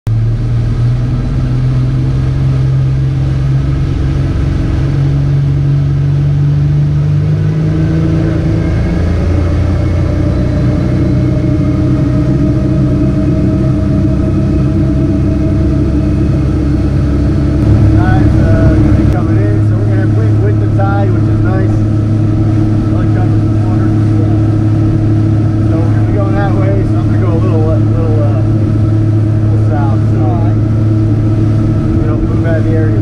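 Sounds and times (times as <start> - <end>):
boat engine running: 0.1 - 33.0.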